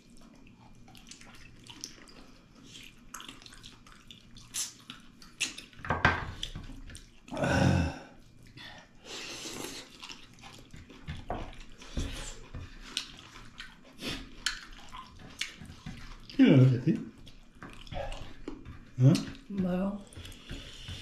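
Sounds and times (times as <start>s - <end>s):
people chewing and slurping: 0.0s - 21.0s.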